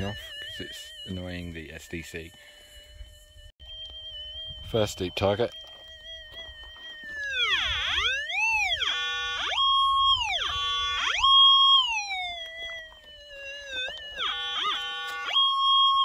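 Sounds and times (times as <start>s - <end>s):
metal detector tone swooping: 0.0s - 16.0s
metal detector warble: 0.0s - 16.0s.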